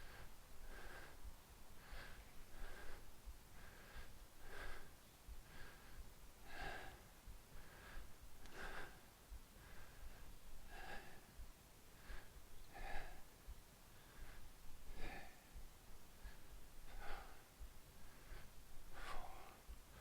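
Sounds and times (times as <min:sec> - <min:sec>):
person breathing hard: 0:00.0 - 0:20.0.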